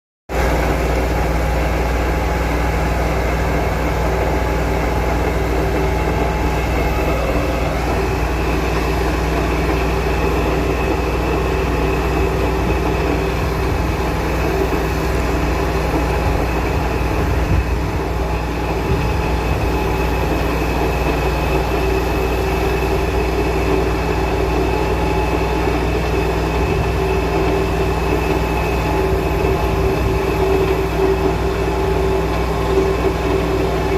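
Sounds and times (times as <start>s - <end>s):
pile-driving machinery drone: 0.3s - 33.9s.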